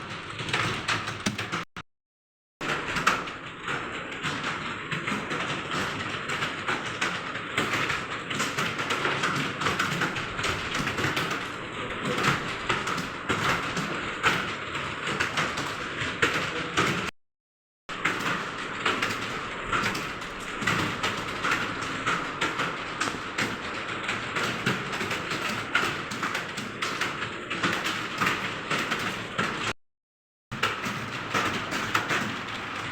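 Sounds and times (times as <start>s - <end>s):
fast typing on keyboard: 0.0s - 1.7s, 2.6s - 17.1s, 18.0s - 29.8s, 30.6s - 32.9s.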